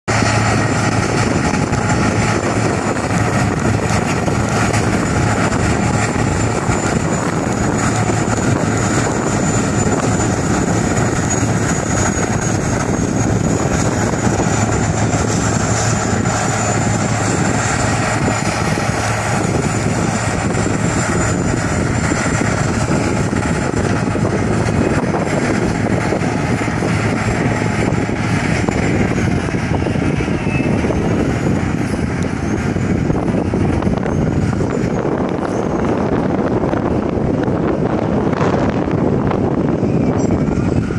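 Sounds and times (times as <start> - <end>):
diesel engine under load: 0.1 - 40.9
steady high whine: 0.1 - 40.9.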